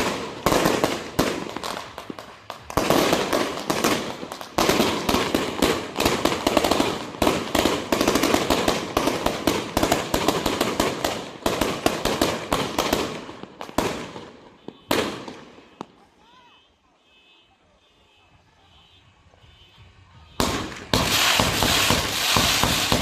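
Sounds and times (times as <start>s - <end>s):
firecrackers crackling: 0.0s - 16.4s, 19.8s - 23.0s.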